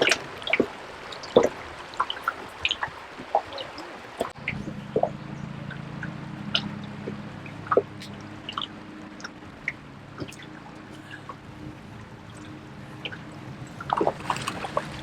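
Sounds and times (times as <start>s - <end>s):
low steady hum: 0.0s - 15.0s
small ticks and splashes: 0.0s - 15.0s
water dripping and trickling: 0.0s - 15.0s.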